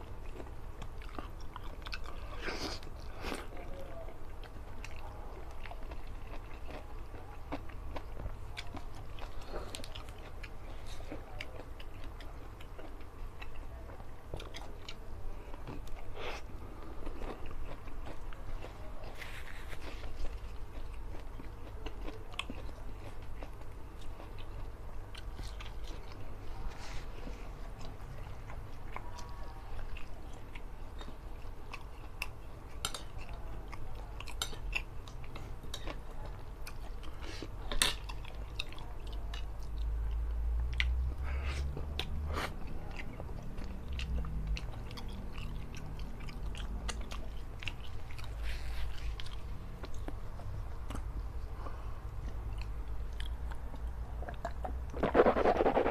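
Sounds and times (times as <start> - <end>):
food crunching: 0.0 - 55.9
man chewing food: 0.0 - 55.9.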